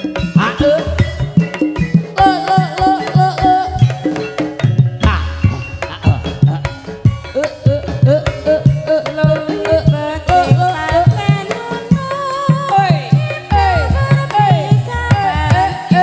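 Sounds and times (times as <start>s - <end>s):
person singing wavering melody: 0.0s - 16.0s
pitched metal percussion: 0.0s - 16.0s.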